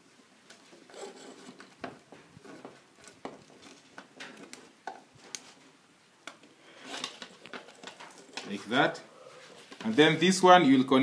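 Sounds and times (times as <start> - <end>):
wires rustling: 0.0 - 10.3.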